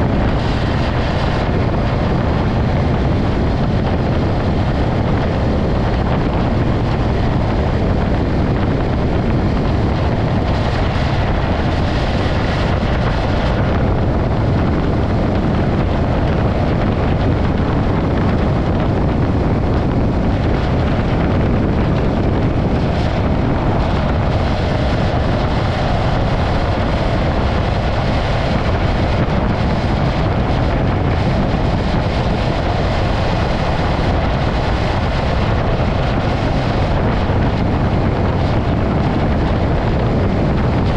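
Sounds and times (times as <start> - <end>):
motorcycle running and road noise: 0.0 - 40.9
wind buffeting microphone: 0.0 - 40.9.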